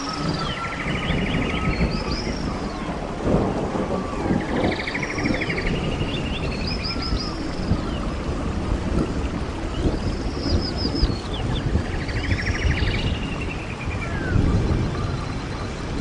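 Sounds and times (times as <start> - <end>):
constant low rumbling: 0.0 - 16.0
small birds chirping and trilling: 0.0 - 16.0.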